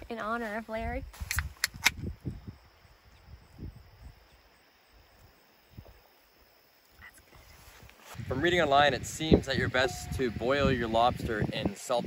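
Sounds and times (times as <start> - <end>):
high insect trill: 0.1 - 12.0.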